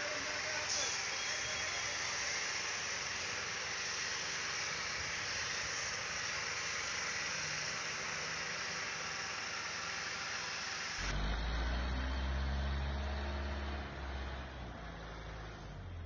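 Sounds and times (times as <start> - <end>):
crane engine hissing: 0.0 - 16.0.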